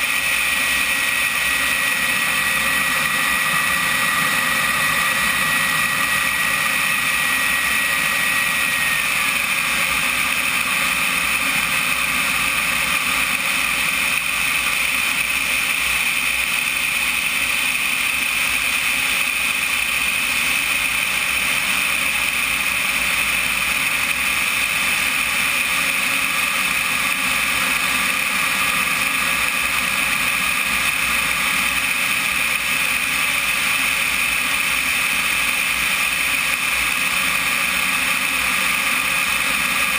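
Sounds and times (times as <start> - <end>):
turbine engine whine: 0.0 - 39.9.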